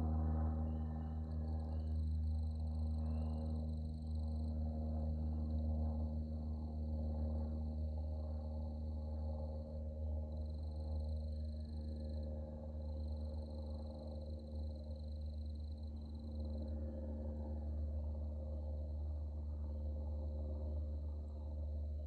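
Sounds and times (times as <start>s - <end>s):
distant propeller plane droning: 0.0s - 22.0s.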